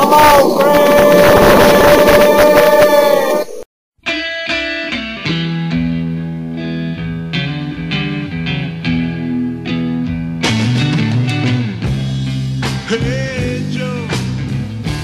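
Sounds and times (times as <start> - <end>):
sustained bass notes: 0.0 - 3.6, 5.3 - 15.0
guitar-led rock music: 0.6 - 15.0.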